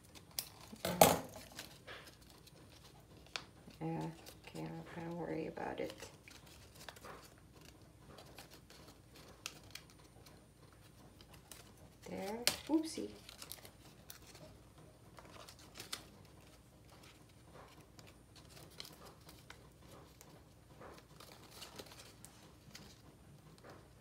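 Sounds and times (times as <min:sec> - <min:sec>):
paper rustling and creasing: 0:00.0 - 0:24.0.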